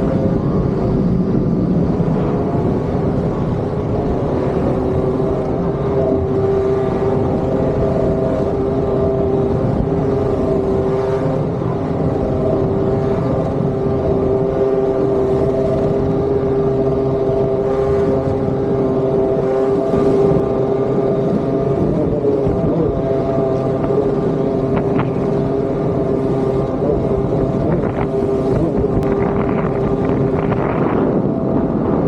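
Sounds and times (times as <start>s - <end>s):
small engine droning: 0.0s - 32.0s
water noise: 0.0s - 32.0s
wind noise: 0.0s - 32.0s.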